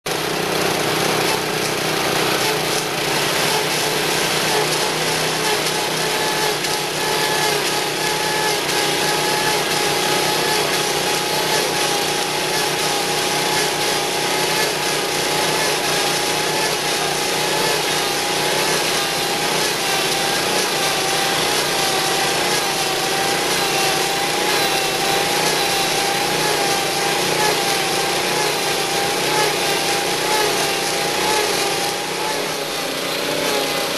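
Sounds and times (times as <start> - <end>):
small engine whining: 0.1 - 33.9.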